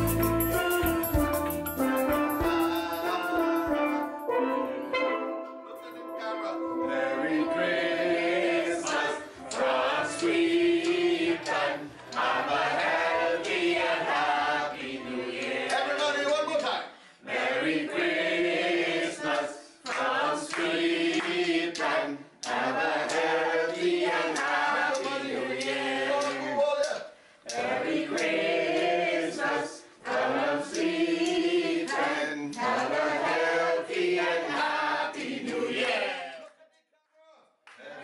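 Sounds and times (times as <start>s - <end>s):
group of voices singing: 2.3s - 16.4s, 17.2s - 36.4s, 37.8s - 38.0s.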